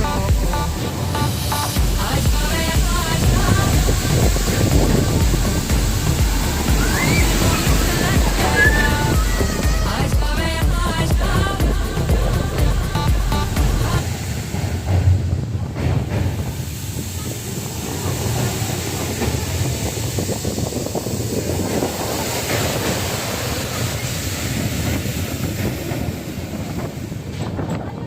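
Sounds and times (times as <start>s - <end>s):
train rumbling on track: 0.0s - 28.0s
wheels rattling on rails: 0.0s - 28.0s.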